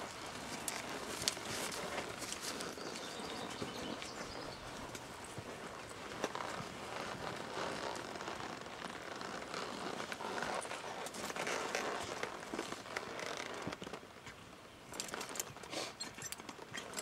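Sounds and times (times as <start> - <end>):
horse hoofbeats on sand: 0.0 - 14.0
steady crackling hiss: 0.0 - 17.0.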